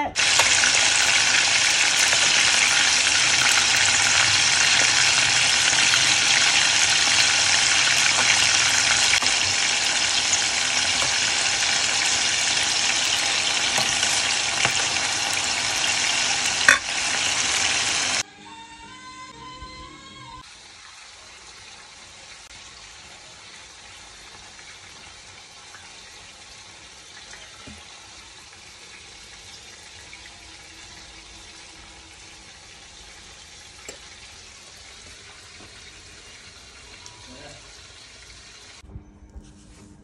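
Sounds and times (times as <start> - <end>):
chicken frying in hot oil: 0.0 - 18.2, 20.4 - 38.8.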